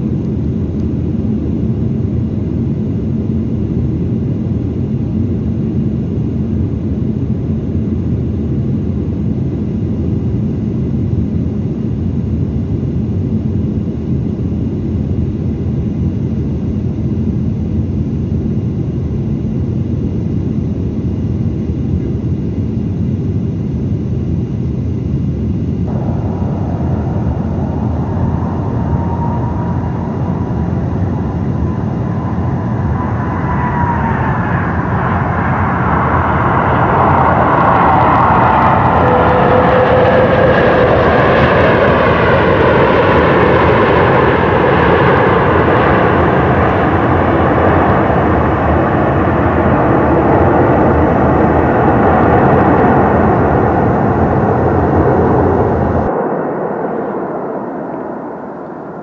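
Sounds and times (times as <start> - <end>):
airliner cabin rumble: 0.0 - 59.0
jet engines whining: 0.0 - 59.0.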